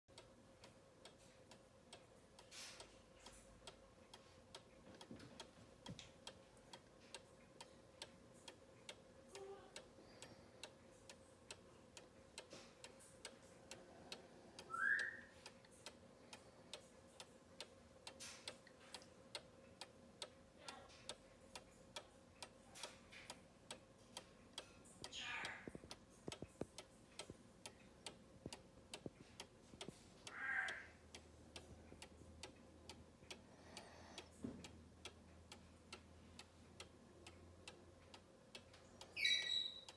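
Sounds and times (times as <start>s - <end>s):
clock ticking faintly: 0.1s - 39.9s.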